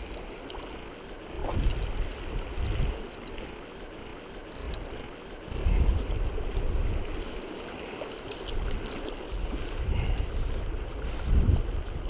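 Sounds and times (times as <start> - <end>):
wind buffeting microphone: 0.0 - 7.8, 8.4 - 12.0.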